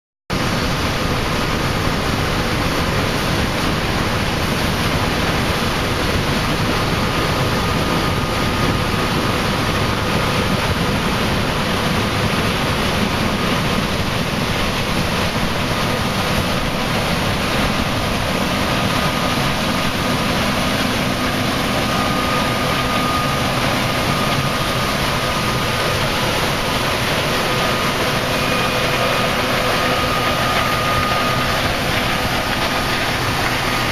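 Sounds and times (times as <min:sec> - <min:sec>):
combine harvester running: 0:00.3 - 0:33.9
faint steady whine: 0:00.4 - 0:33.9.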